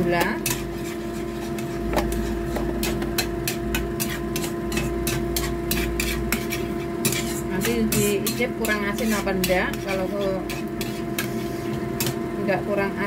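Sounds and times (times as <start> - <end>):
spatula scraping a wok: 0.0 - 12.4
steady hum: 0.0 - 13.0.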